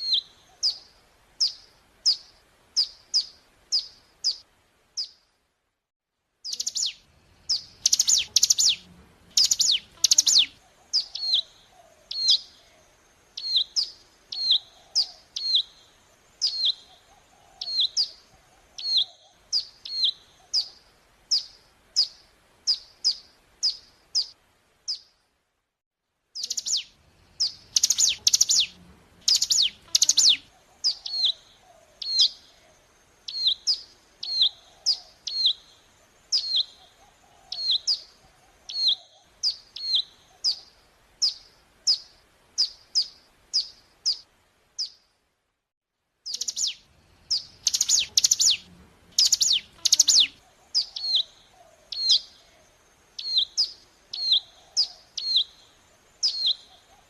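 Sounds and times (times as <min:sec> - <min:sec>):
bird singing high chirps: 0:00.0 - 0:04.4, 0:06.5 - 0:08.8, 0:09.4 - 0:12.7, 0:13.4 - 0:25.1, 0:26.4 - 0:44.2, 0:46.3 - 0:57.0.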